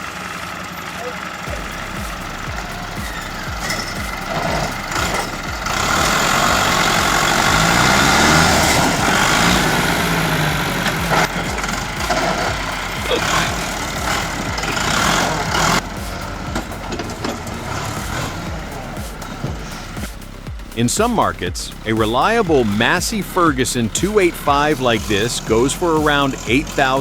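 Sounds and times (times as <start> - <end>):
heavy vehicle engine revving: 0.0 - 27.0
loud rattling din: 0.0 - 27.0.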